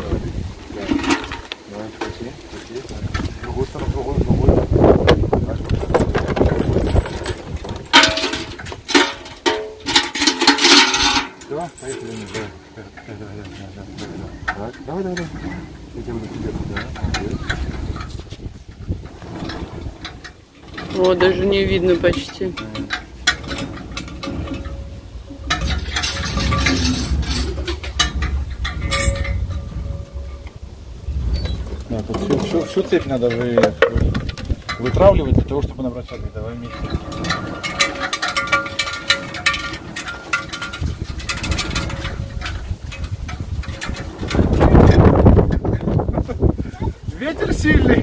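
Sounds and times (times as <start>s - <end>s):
metal bucket clanking: 0.0s - 48.0s
metal chain rattling: 3.0s - 13.2s, 14.4s - 48.0s.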